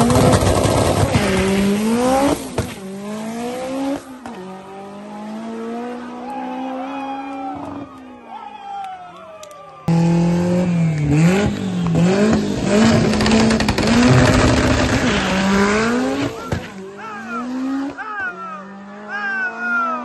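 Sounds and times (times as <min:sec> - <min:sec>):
race cars accelerating: 0:00.0 - 0:08.2, 0:09.8 - 0:20.0.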